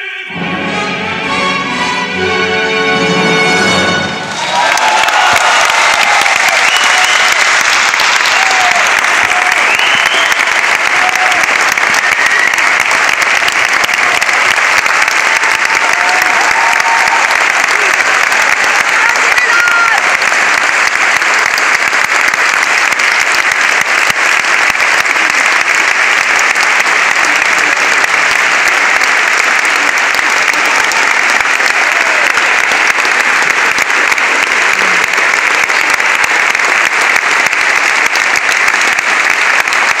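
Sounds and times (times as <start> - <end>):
audience applauding: 1.9 - 40.0.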